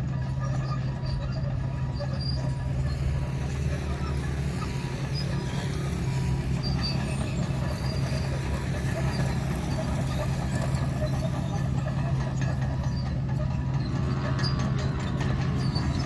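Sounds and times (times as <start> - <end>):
bulldozer diesel engine running: 0.0 - 16.0
bulldozer tracks and blade scraping: 0.0 - 16.0.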